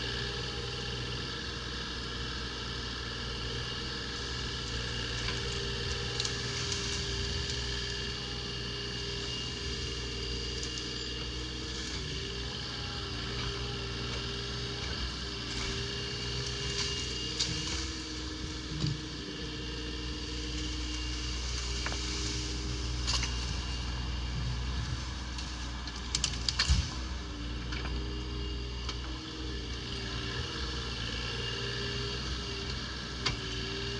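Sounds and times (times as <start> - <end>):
excavator diesel engine running: 0.0 - 33.9
branches cracking and snapping: 4.0 - 31.8.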